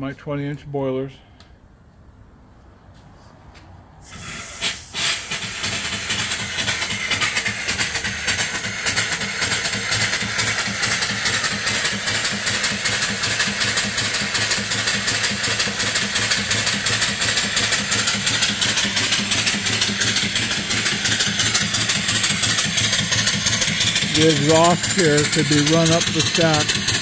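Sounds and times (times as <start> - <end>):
steam engine chuffing: 4.0 - 27.0
steam hiss: 4.0 - 27.0.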